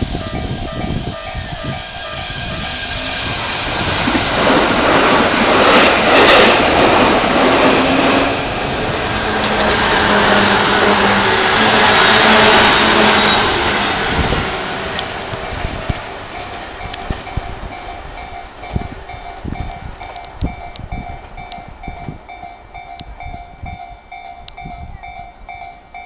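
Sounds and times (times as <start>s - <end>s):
trains rumbling on rails: 0.0s - 26.0s.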